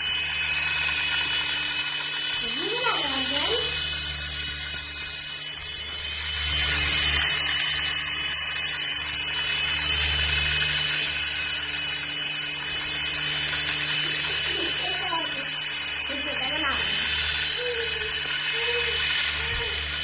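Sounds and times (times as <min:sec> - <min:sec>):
toy helicopter rotors whining: 0:00.0 - 0:20.0.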